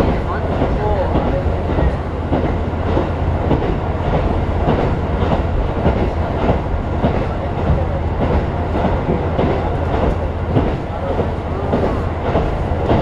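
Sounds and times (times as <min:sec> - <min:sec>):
railcar engine and wheels rumbling: 0:00.0 - 0:13.0
wheels clacking over track: 0:00.0 - 0:13.0.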